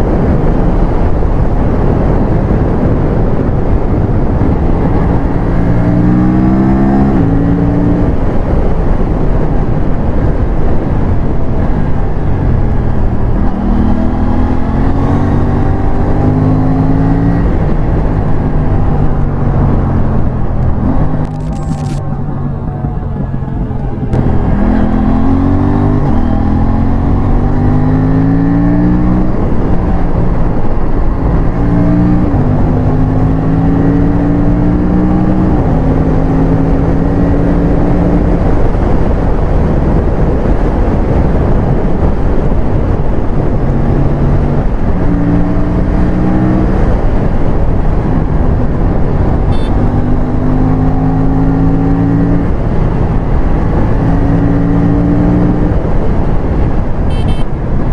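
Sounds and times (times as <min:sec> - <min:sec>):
heavy wind rush: 0:00.0 - 0:57.9
motorcycle engine revving through gears: 0:00.1 - 0:22.2, 0:23.8 - 0:57.9.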